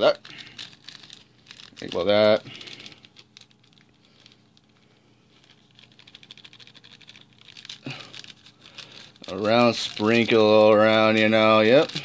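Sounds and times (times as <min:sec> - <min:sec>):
foil packet crinkling: 0:00.0 - 0:12.0
powder pattering onto noodles: 0:00.0 - 0:12.0.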